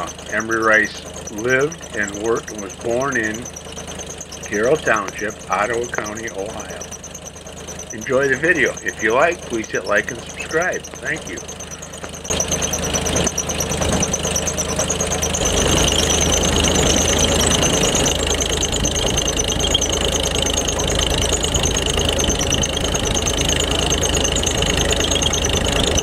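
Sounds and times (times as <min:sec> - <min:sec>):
tractor engine chugging: 0:00.0 - 0:26.0.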